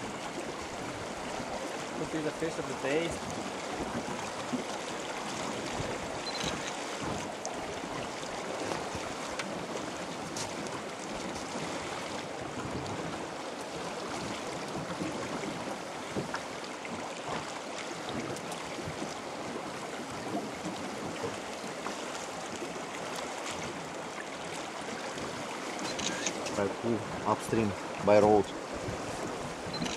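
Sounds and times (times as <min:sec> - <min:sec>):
fast-flowing river rushing: 0:00.0 - 0:29.9.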